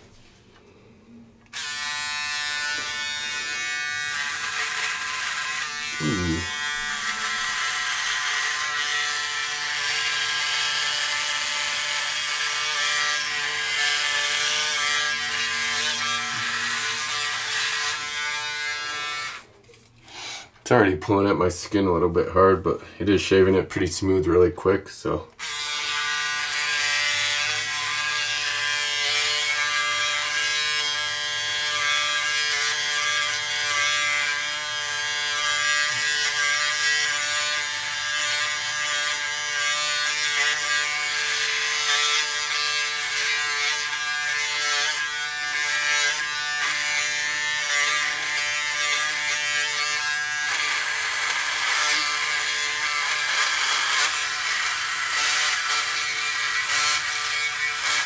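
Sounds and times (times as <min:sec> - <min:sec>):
electric shaver humming: 0:01.5 - 0:19.5, 0:25.4 - 0:58.0
shaver head rasping on stubble: 0:01.5 - 0:19.5, 0:25.4 - 0:58.0.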